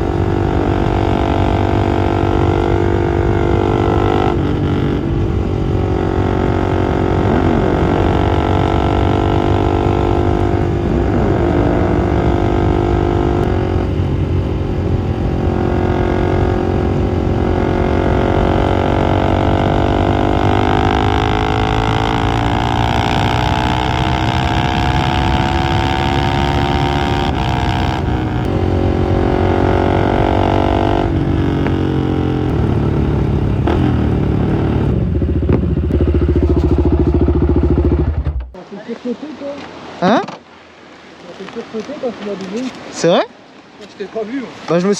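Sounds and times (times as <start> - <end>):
motorcycle engine accelerating: 0.0 - 38.6
wind noise: 0.0 - 38.6.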